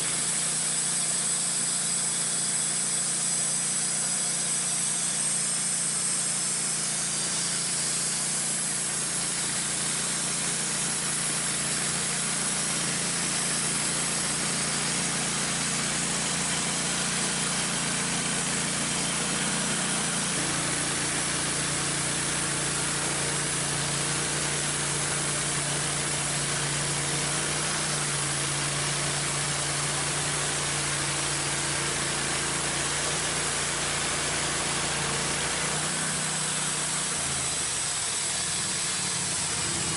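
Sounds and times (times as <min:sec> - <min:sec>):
band blade hissing through wood: 0:00.0 - 0:39.9
gas engine running under load: 0:00.0 - 0:39.9.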